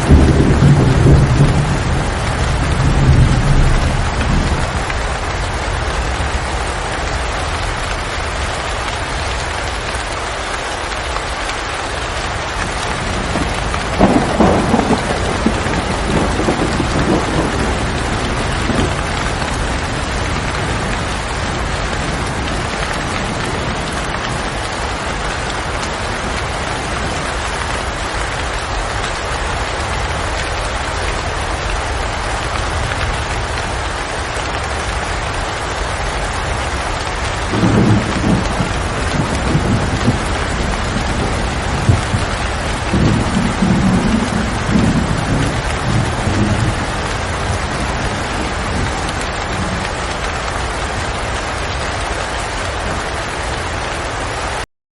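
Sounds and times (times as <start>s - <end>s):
thunder rumbling: 0.0s - 9.7s, 11.9s - 54.2s
steady rain: 0.0s - 54.7s.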